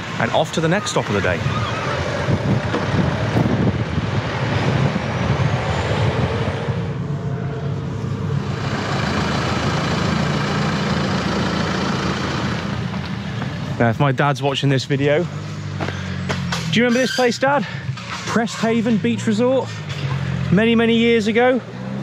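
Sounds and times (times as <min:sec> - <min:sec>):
road noise: 0:00.0 - 0:22.0
van engine: 0:00.0 - 0:22.0.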